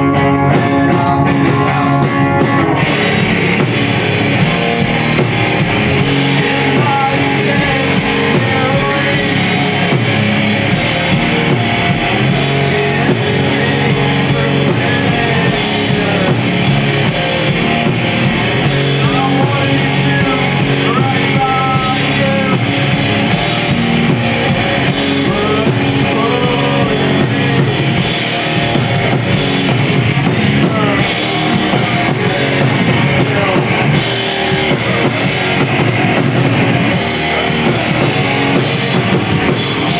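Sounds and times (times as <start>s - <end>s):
drum kit: 0.0s - 39.9s
electric guitar: 0.0s - 39.9s
person singing: 0.0s - 39.9s.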